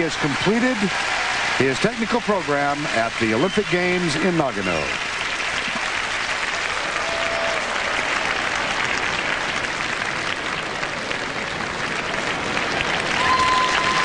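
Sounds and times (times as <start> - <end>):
arena crowd applauding: 0.0 - 14.0.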